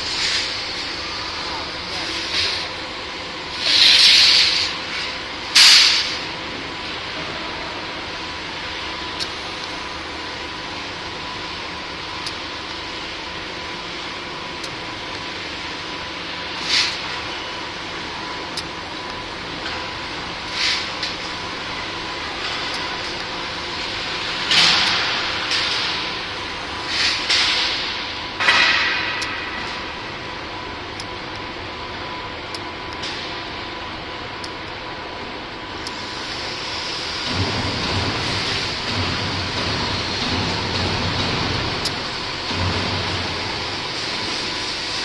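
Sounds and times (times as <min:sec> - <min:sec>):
welding arc hiss: 0:00.0 - 0:07.0, 0:08.0 - 0:28.2, 0:35.7 - 0:45.0.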